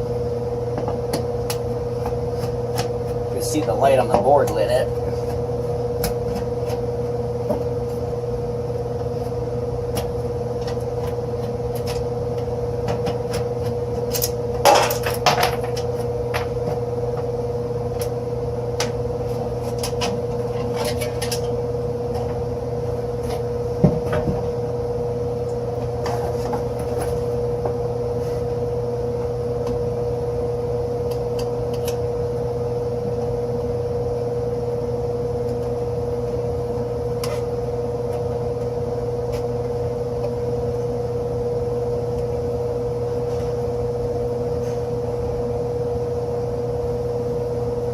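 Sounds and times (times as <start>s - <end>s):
furnace equipment humming: 0.0s - 47.9s.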